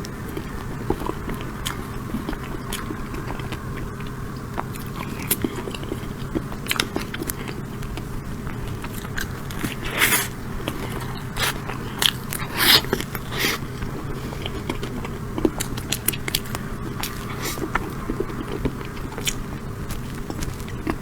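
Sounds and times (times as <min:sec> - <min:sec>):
person chewing cake: 0:00.0 - 0:21.0.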